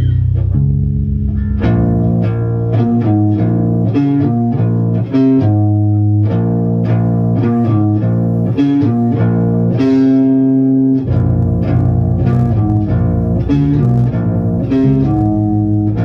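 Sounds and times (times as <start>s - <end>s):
electric bass guitar riff: 0.0s - 16.0s.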